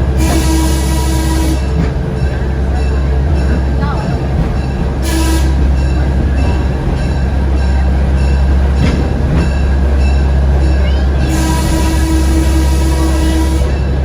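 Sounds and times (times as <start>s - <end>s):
diesel locomotive engine drone: 0.0s - 14.0s
train wheels on rails: 0.0s - 14.0s.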